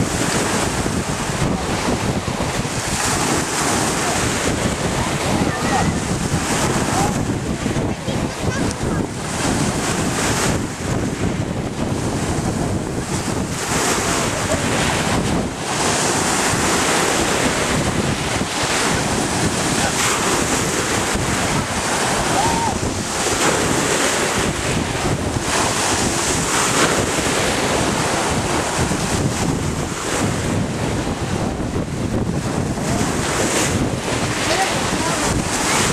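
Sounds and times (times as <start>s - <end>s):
surf breaking on shore: 0.0s - 35.9s
wind noise on microphone: 0.0s - 35.9s.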